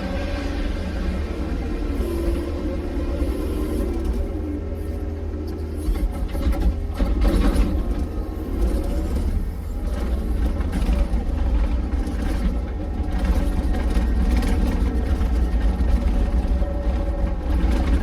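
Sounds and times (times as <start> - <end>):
engine clatter: 0.0 - 18.0
engine rumbling: 0.0 - 18.0.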